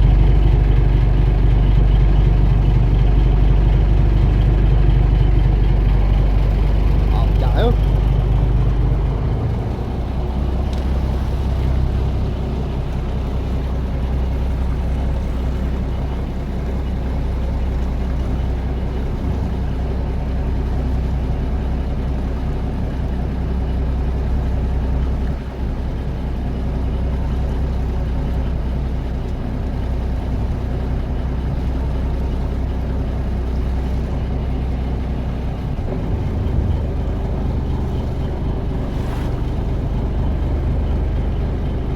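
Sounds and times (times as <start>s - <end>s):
boat engine humming: 0.0s - 41.9s.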